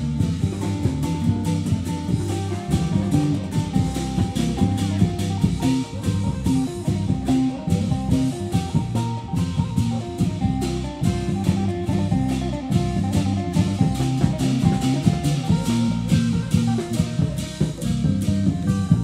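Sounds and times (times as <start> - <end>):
plucked string melody: 0.0 - 19.0
quick drum beat: 0.0 - 19.0.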